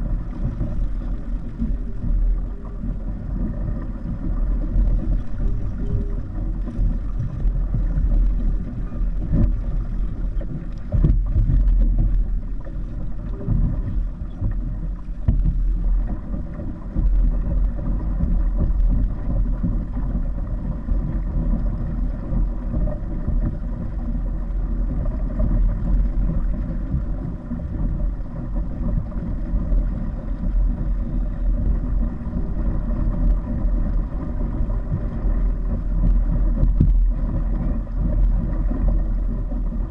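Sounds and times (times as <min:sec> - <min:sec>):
water noise: 0:00.0 - 0:39.9.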